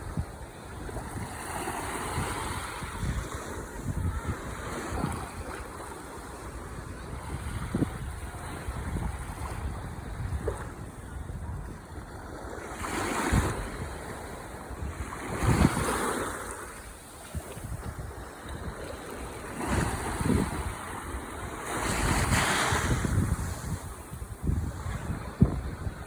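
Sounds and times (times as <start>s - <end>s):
ocean waves washing ashore: 0.0s - 26.0s
wind noise on microphone: 0.0s - 26.0s.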